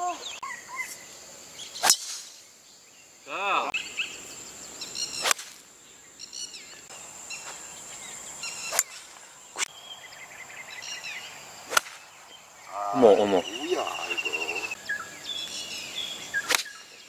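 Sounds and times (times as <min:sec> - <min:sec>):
birds chirping: 0:00.0 - 0:17.0
high insect whine: 0:00.0 - 0:17.0.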